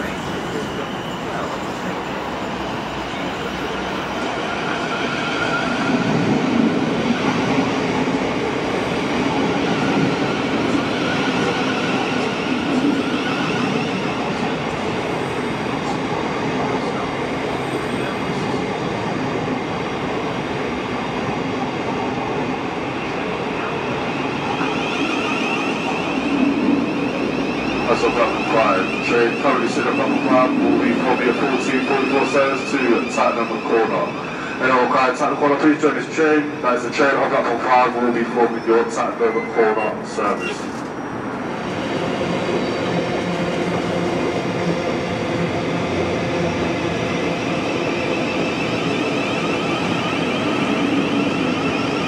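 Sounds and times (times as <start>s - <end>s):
train running on rails: 0.0s - 52.0s.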